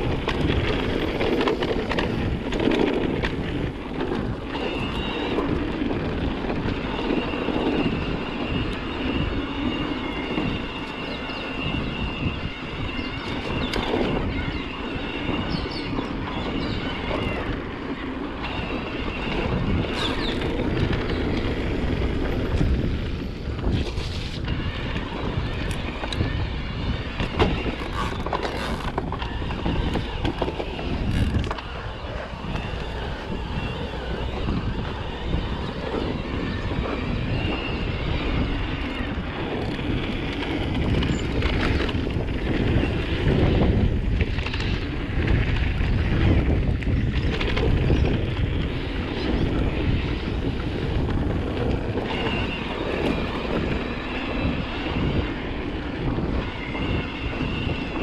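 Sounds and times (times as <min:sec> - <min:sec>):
tyres rumbling on dirt: 0:00.0 - 0:58.0
wind buffeting microphone: 0:00.0 - 0:58.0.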